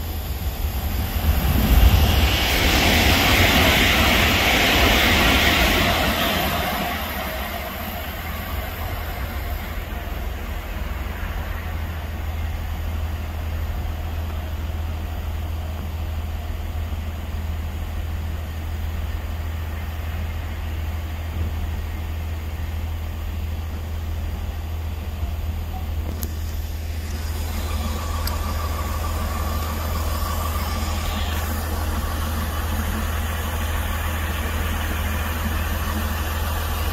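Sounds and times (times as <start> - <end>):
electric train running past: 0.0 - 36.9
steady low hum: 0.0 - 36.9.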